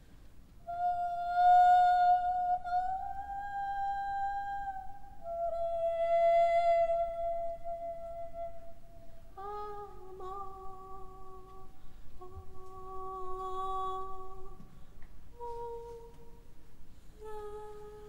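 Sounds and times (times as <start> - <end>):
woman humming: 0.7 - 14.6, 15.4 - 16.4, 17.2 - 18.0.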